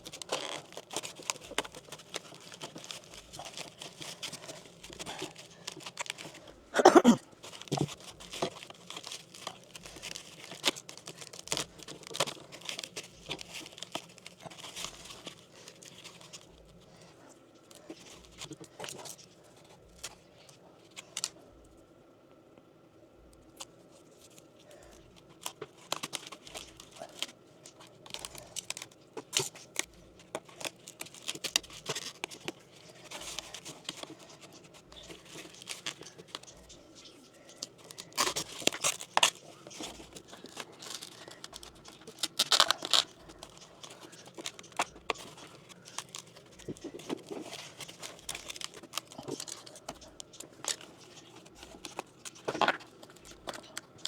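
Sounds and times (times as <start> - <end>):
plastic crinkling: 0.0 - 21.4, 23.4 - 54.0.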